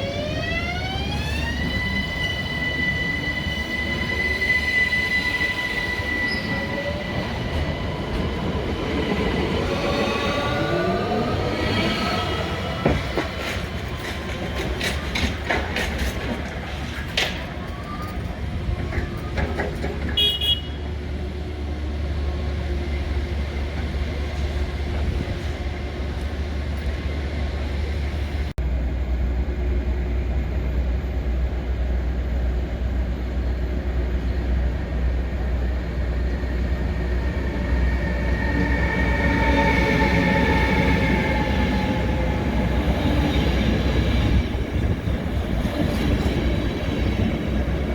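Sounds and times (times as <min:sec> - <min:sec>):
train rumbling: 0:00.0 - 0:47.9.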